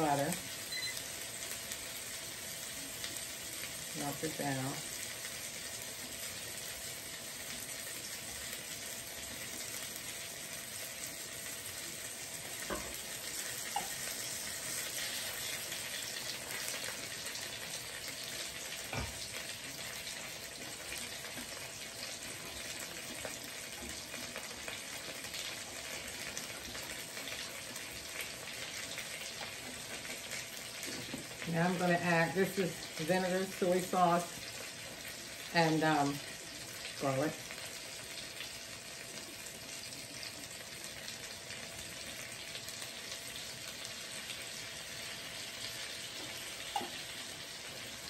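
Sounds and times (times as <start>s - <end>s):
chicken sizzling in a skillet: 0.0s - 48.0s.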